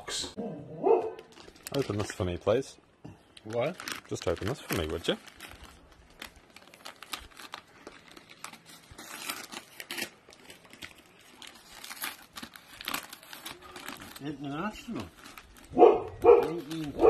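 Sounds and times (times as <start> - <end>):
paper crinkling and tearing: 1.1 - 2.6, 3.3 - 17.0.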